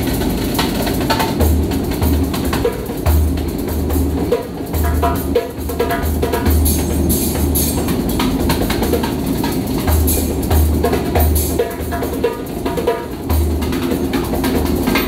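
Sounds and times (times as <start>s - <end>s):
hand drum playing quick rhythm: 0.0s - 15.0s.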